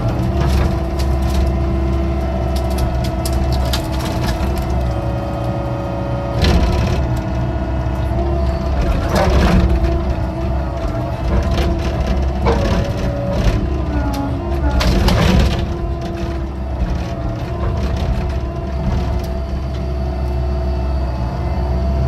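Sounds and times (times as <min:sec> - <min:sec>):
excavator diesel engine whining: 0:00.0 - 0:22.0.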